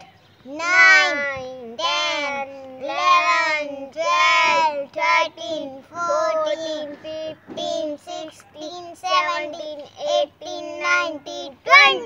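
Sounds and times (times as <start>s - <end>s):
girl singing: 0.5s - 12.0s.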